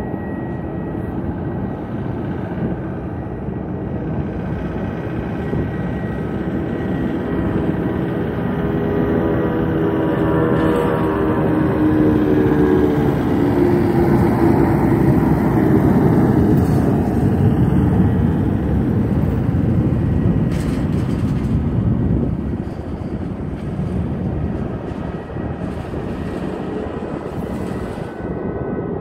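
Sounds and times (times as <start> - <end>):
jet airliner taking off: 0.0 - 29.0.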